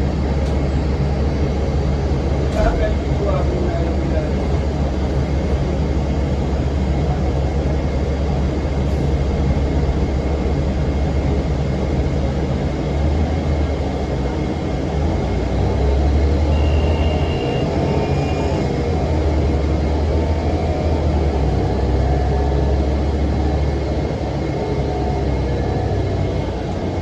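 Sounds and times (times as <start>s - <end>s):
bus diesel engine drone: 0.0s - 27.0s.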